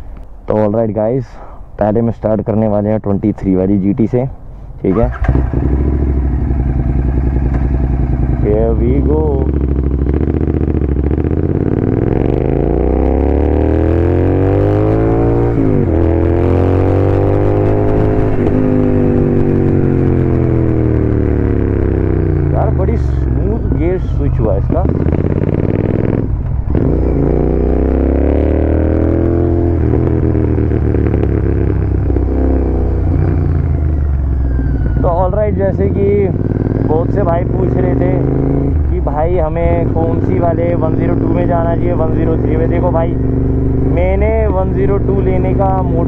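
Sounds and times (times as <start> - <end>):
motorcycle accelerating: 4.9 - 46.0.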